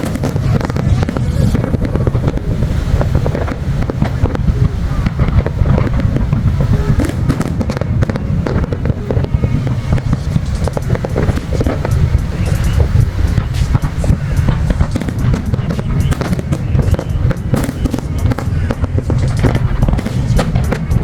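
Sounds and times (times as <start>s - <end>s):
continuous low rumble: 0.0s - 21.0s
fireworks bangs and crackles: 0.0s - 21.0s.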